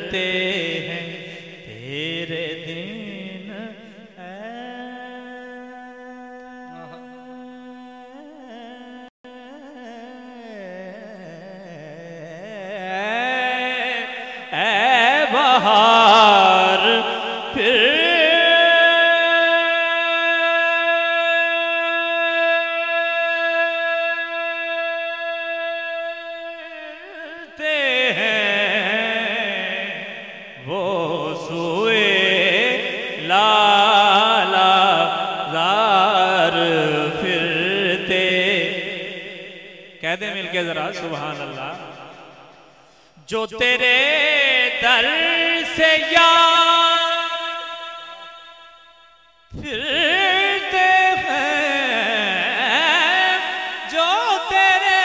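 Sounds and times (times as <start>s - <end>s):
man singing into a microphone: 0.0s - 55.0s.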